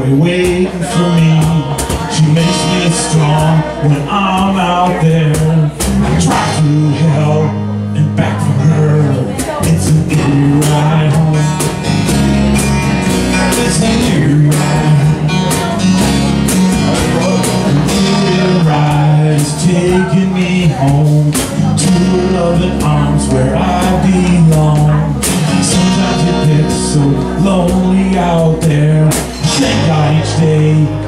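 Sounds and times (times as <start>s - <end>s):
cajon beat: 0.0s - 31.0s
strummed acoustic guitars: 0.0s - 31.0s.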